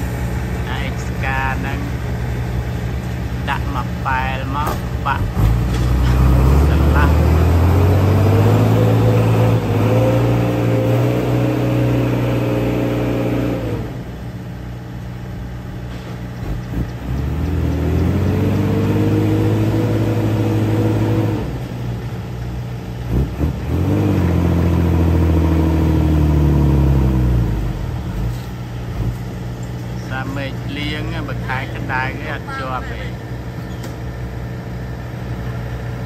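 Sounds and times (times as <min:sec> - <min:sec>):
diesel truck engine revving: 0:00.0 - 0:36.0.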